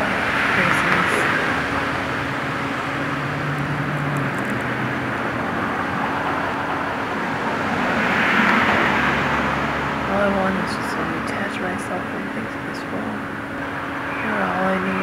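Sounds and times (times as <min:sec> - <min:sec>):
road traffic rushing: 0:00.0 - 0:15.0.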